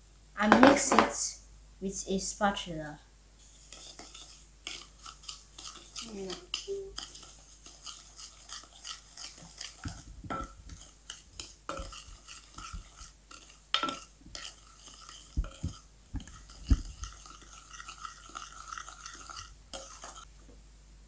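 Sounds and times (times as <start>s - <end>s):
spatula scraping a bowl: 3.4s - 20.3s.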